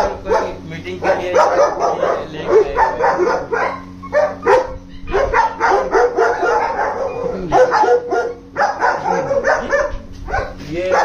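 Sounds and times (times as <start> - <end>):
dogs barking and yelping: 0.0 - 11.0.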